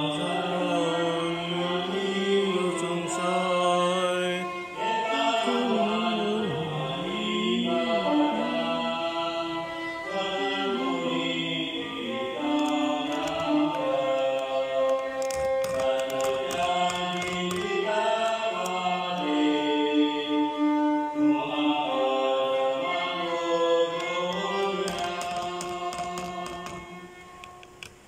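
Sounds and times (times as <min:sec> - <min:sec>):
hymn singing in chords: 0:00.0 - 0:28.0.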